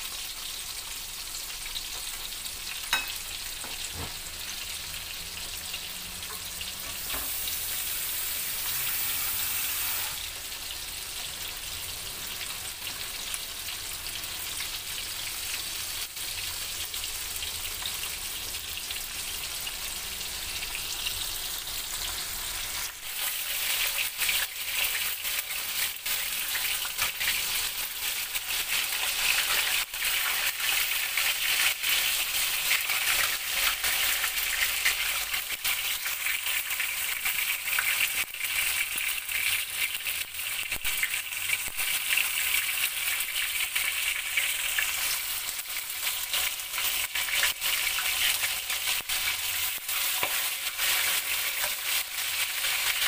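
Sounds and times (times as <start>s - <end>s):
deep-frying oil sizzling and popping: 0.0s - 53.0s.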